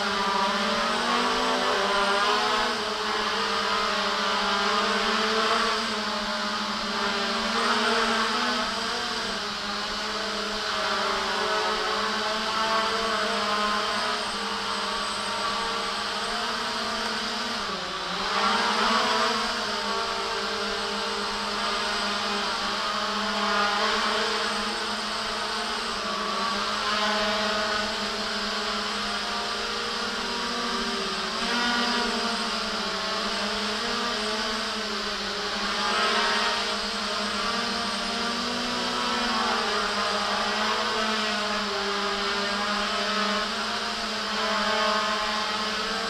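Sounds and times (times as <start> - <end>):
quadcopter propellers buzzing: 0.0 - 46.0.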